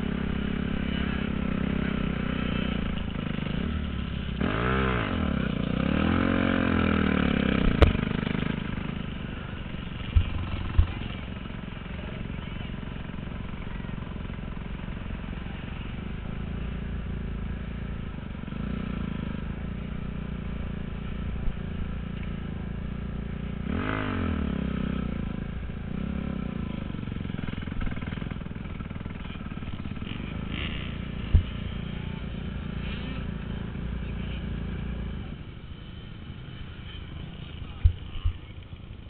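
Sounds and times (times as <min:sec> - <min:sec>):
motocross bike engine running: 0:00.0 - 0:39.0.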